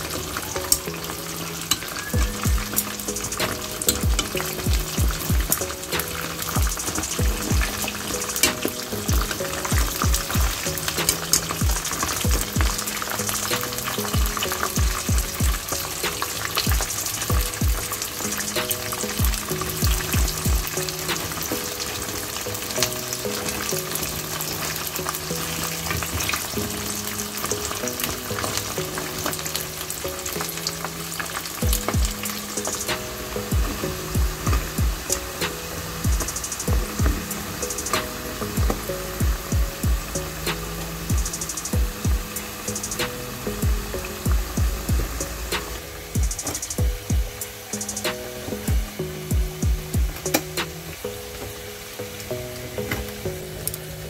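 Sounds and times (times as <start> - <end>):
fritters sizzling in oil: 0.0 - 51.9
background music with beat: 0.0 - 54.0.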